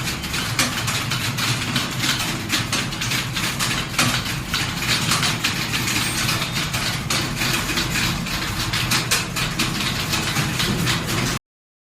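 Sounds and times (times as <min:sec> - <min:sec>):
keyboard typing clatter: 0:00.0 - 0:11.4.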